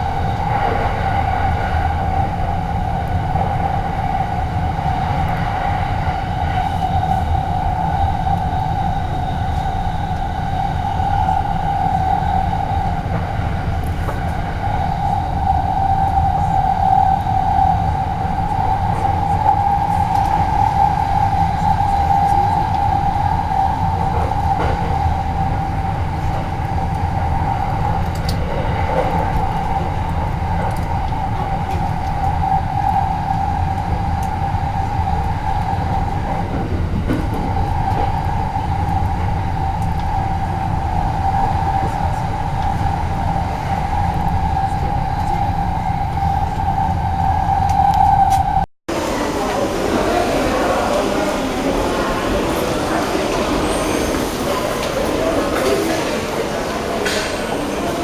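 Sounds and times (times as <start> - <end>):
train rumble: 0.0 - 58.0
train whine: 0.0 - 58.0.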